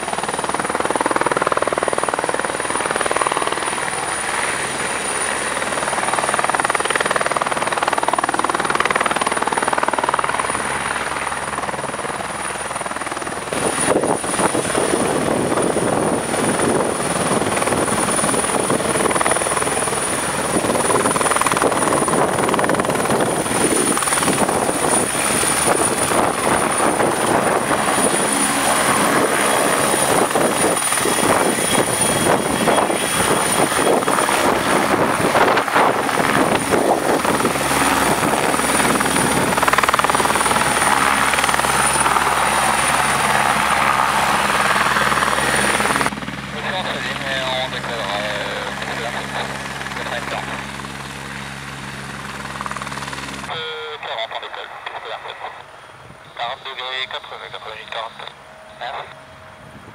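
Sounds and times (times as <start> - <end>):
helicopter rotor beating: 0.0 - 59.9
high turbine whine: 0.0 - 59.9.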